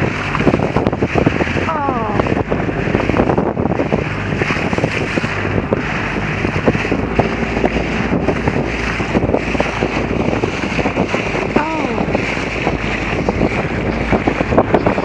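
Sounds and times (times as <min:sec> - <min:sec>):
water splashing around a boat: 0:00.0 - 0:15.0
wind buffeting microphone: 0:00.0 - 0:15.0.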